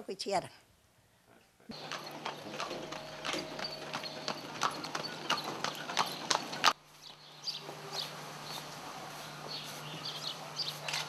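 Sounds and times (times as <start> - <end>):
horse hooves clip-clopping: 1.7 - 11.0.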